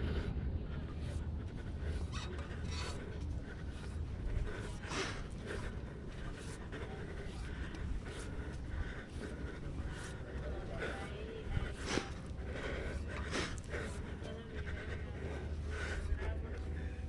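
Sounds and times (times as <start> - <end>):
person breathing heavily: 0.0 - 17.0
steady low rumble: 0.0 - 17.0.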